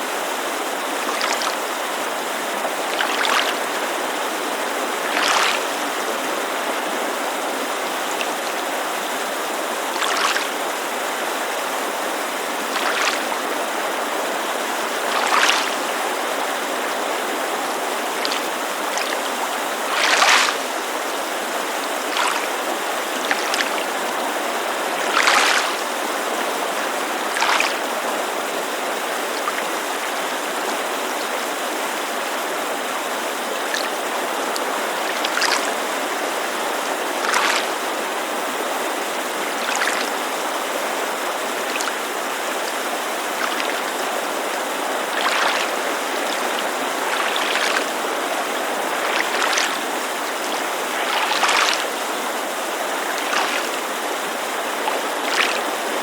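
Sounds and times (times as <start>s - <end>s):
mountain creek rushing: 0.0s - 56.0s
water lapping against shore: 0.0s - 56.0s.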